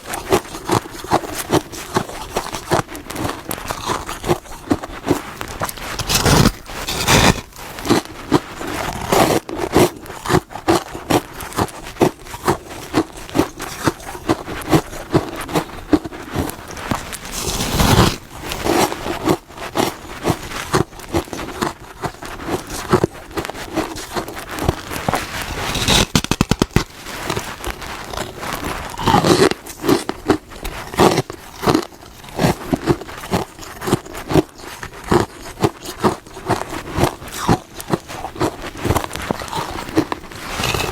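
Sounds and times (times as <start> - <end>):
crunching frost chewing: 0.0 - 40.9.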